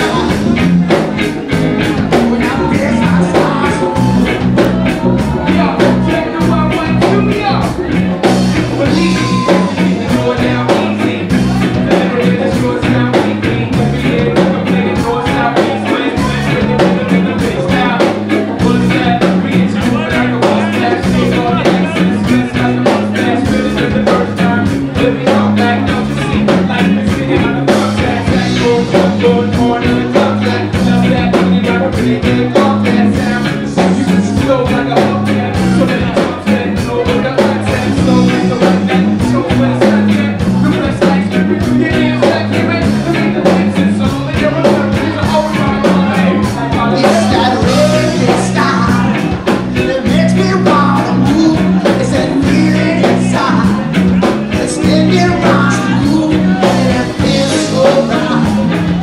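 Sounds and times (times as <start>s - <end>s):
lead singer singing: 0.0s - 59.0s
live reggae rock band: 0.0s - 59.0s.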